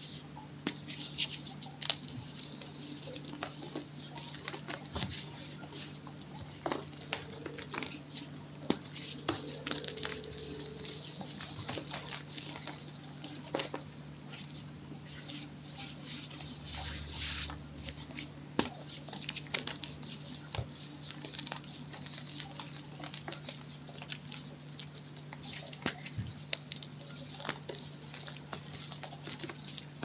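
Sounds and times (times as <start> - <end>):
chalk crunching and crumbling: 0.0 - 30.0.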